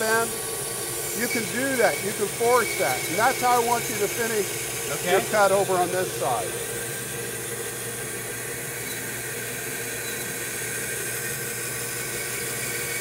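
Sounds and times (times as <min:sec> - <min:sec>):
bandsaw cutting wood: 0:00.0 - 0:13.0.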